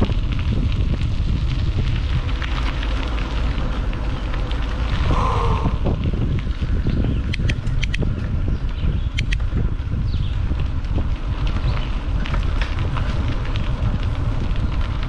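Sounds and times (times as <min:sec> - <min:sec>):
crackles: 0:00.0 - 0:15.0
wind buffeting microphone: 0:00.0 - 0:15.0.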